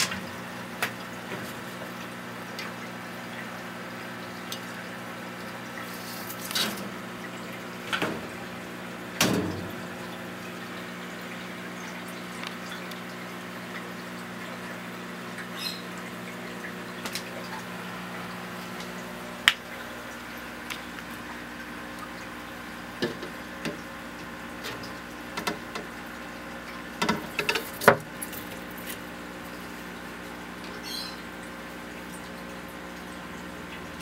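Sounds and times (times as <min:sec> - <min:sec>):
mechanical hum: 0:00.0 - 0:34.0
water trickling: 0:00.0 - 0:34.0.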